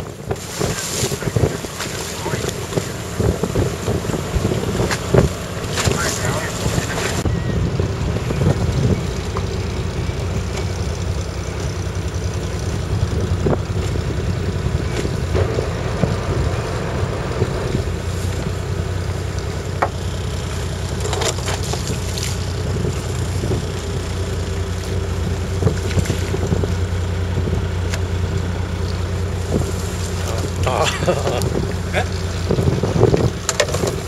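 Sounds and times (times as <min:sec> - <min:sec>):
boat engine running: 0:00.0 - 0:34.0
water noise: 0:00.0 - 0:34.0
wind: 0:00.0 - 0:34.0.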